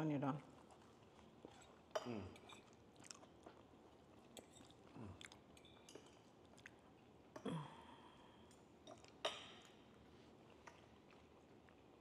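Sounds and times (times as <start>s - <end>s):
people chewing food: 0.3s - 12.0s.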